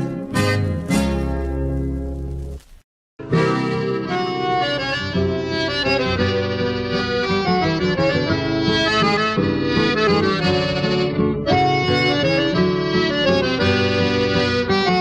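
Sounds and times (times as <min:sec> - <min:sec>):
accordion-like lead melody: 0:00.0 - 0:01.4, 0:03.2 - 0:15.0.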